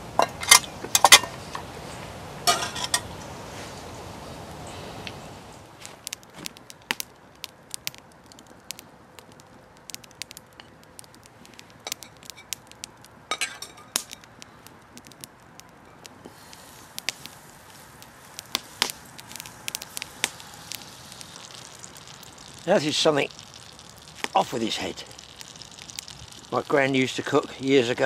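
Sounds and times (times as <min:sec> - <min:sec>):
wood fire crackling: 0:00.0 - 0:28.0
butter sizzling: 0:02.4 - 0:28.0.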